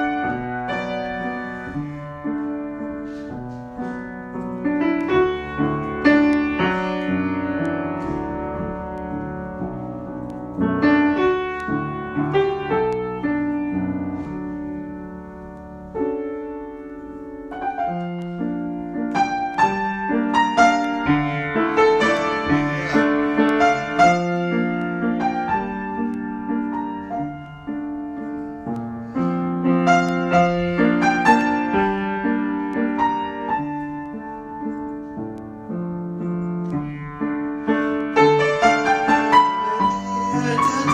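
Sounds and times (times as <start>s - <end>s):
solo piano: 0.0s - 40.9s.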